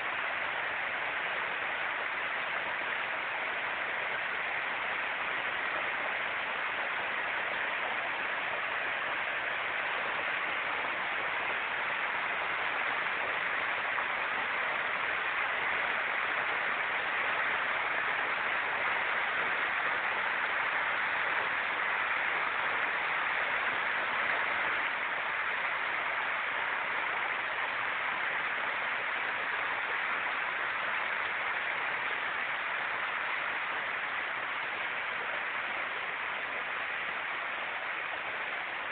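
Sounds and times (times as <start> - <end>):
water rushing from culvert: 0.0 - 38.9.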